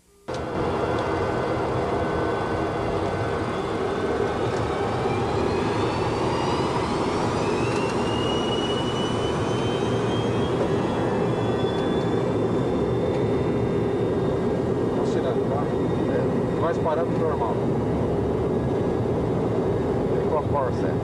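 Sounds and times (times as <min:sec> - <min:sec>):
jet engines roaring with rising whine: 0:00.3 - 0:21.0.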